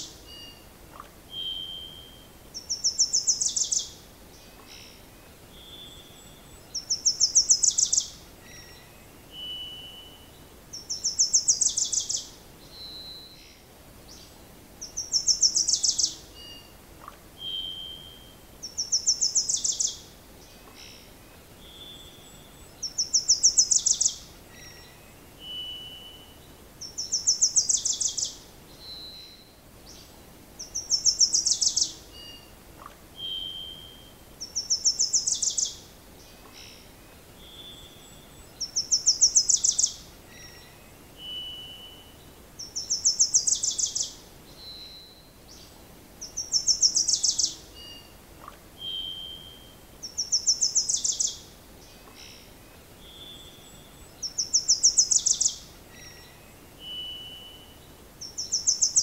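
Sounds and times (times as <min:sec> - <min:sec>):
faint steady hiss: 0:00.0 - 0:59.0
songbird singing high trill: 0:00.0 - 0:59.0.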